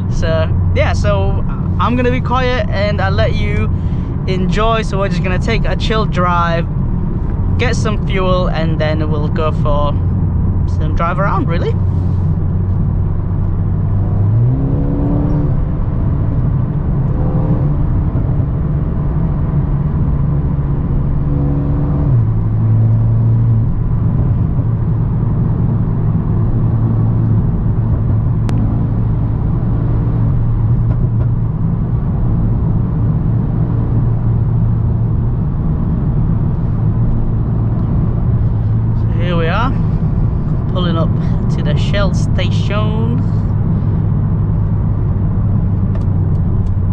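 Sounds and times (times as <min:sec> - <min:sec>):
car engine cruising: 0:00.0 - 0:46.9
road noise: 0:00.0 - 0:46.9.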